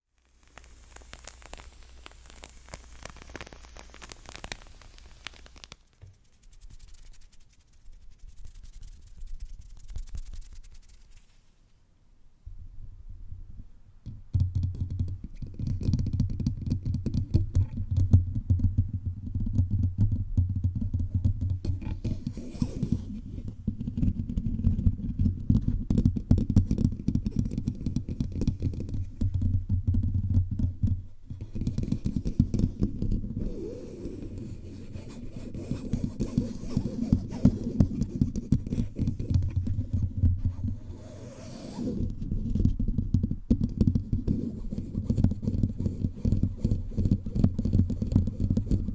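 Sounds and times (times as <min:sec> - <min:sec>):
fingertips tapping a microphone: 0:00.2 - 0:11.5, 0:13.3 - 0:48.9.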